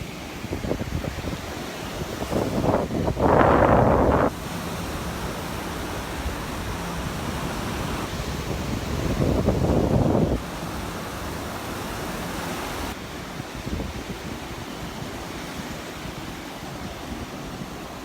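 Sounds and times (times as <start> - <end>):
wind buffeting microphone: 0.0 - 17.7
surf washing ashore: 0.0 - 18.0.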